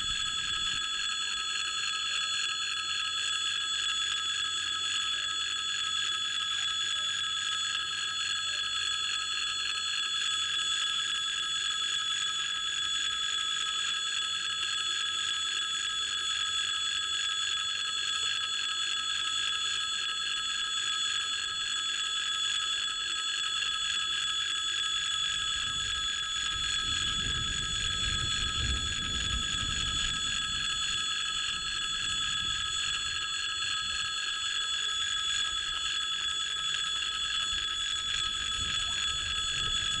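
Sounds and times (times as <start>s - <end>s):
level-crossing warning bell ringing: 0.0s - 40.0s.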